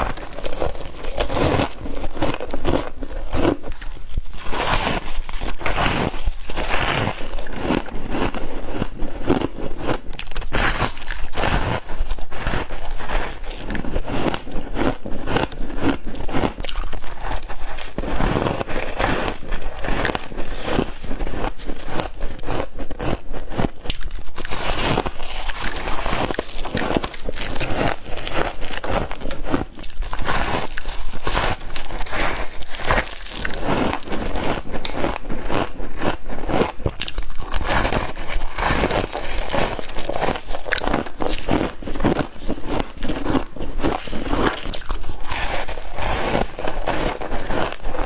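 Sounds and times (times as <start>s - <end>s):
chewing frost crunching: 0.0s - 48.0s.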